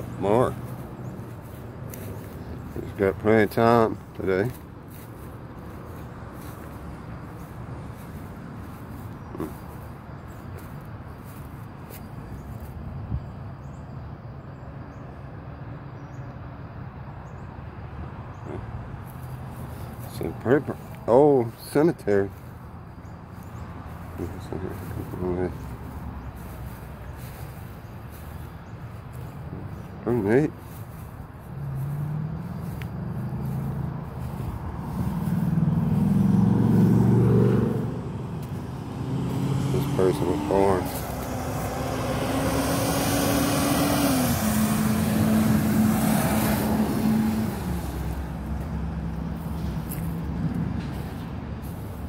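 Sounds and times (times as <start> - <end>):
vehicle driving past: 0.0 - 12.7, 18.4 - 52.0
low outdoor rumble: 0.0 - 13.8, 18.4 - 43.1, 44.2 - 52.0.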